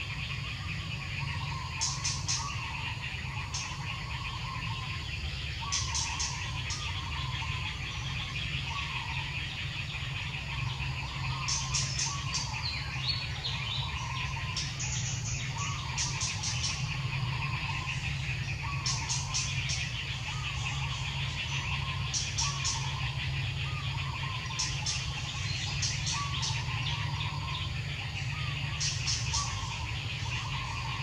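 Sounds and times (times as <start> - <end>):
bird calling: 0.0 - 31.0
steady low hum: 0.0 - 31.0.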